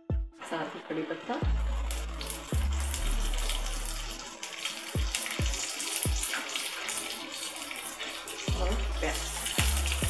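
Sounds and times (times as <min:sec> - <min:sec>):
seeds sizzling in hot oil: 0:00.4 - 0:10.0.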